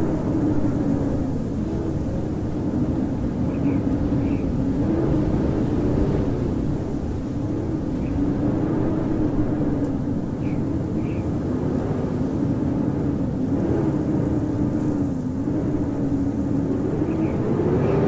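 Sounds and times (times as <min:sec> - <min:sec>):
howling storm wind: 0:00.0 - 0:18.0.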